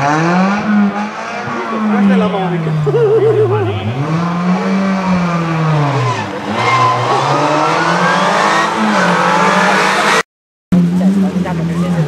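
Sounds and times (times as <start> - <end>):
rally car engine revving: 0.0 - 10.2, 10.8 - 12.0.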